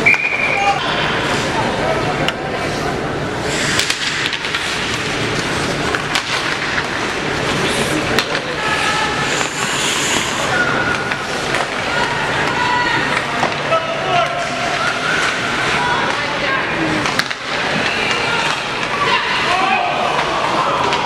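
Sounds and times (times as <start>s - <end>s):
crowd voices: 0.0s - 21.0s
hockey sticks and puck clacking: 3.5s - 21.0s
skates scraping on ice: 3.5s - 21.0s.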